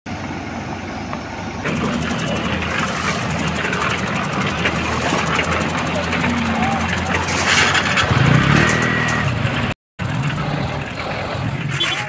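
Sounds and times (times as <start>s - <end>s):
diesel engines running: 0.1s - 12.0s.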